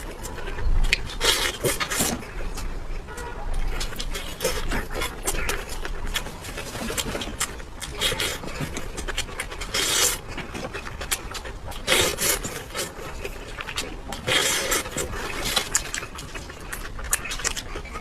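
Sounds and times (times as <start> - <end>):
chewing and mouth noises: 0.0 - 18.0.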